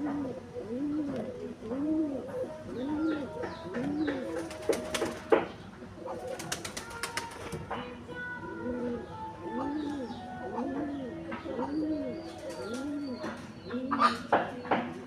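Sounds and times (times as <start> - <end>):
pigeons cooing: 0.0 - 7.7, 8.5 - 15.0.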